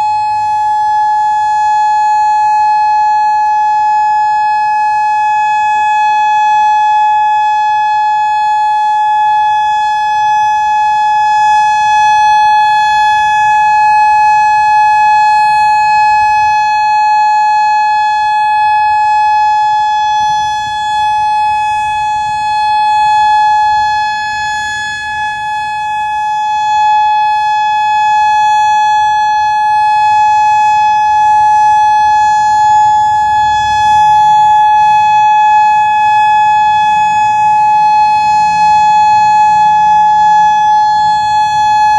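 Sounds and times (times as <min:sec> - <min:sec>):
outdoor warning siren steady tone: 0:00.0 - 0:41.9.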